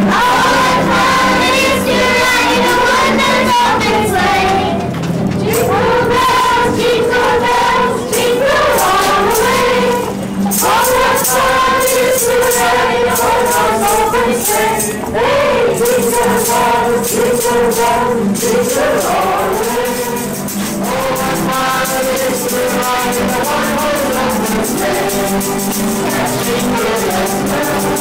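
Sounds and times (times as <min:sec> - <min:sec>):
group of carolers singing: 0:00.0 - 0:28.0
jingle bells shaken: 0:00.1 - 0:04.7, 0:05.4 - 0:28.0.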